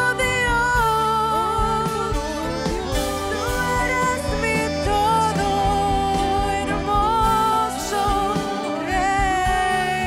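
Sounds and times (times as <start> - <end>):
band accompaniment with bass: 0.0 - 10.0
woman singing: 0.0 - 10.0.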